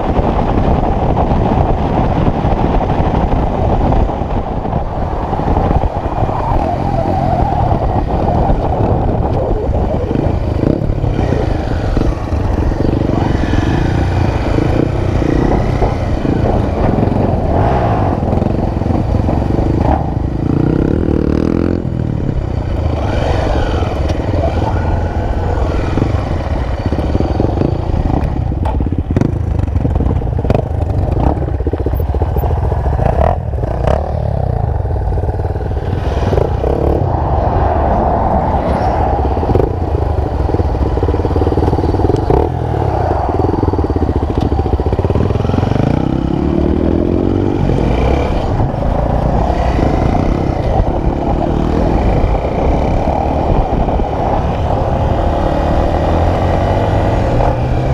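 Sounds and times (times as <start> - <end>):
motorcycle engine running: 0.0 - 37.1, 39.2 - 57.9.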